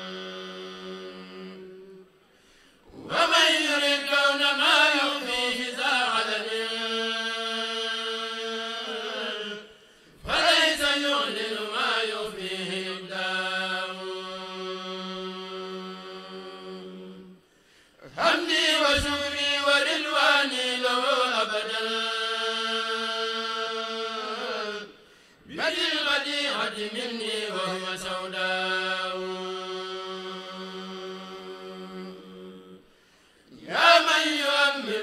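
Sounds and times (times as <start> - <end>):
men chanting: 2.9 - 17.2, 18.0 - 24.9, 25.5 - 32.8, 33.5 - 35.0.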